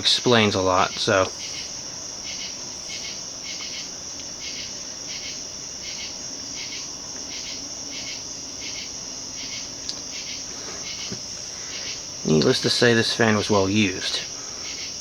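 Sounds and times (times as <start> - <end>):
insect chirps: 0.0 - 15.0
insects trilling: 0.0 - 15.0.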